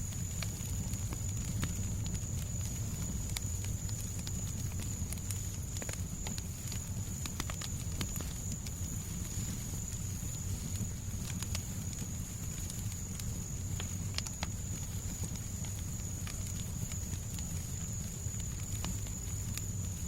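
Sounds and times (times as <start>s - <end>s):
fireplace crackling and popping: 0.0s - 20.0s.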